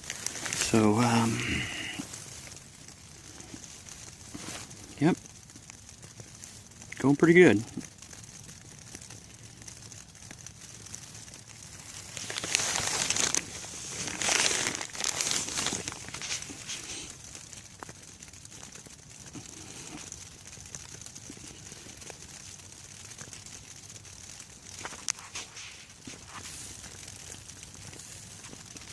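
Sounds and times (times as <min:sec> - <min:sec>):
plastic packaging crinkling: 0:00.0 - 0:28.9
rain hiss: 0:00.0 - 0:28.9.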